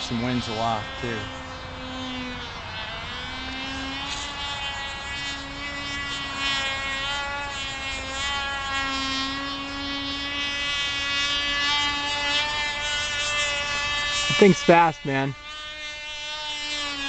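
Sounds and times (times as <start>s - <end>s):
model plane engine buzzing: 0.0s - 17.0s.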